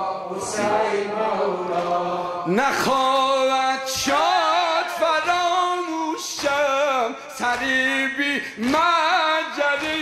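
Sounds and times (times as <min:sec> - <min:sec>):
man singing a lament: 0:00.0 - 0:10.0.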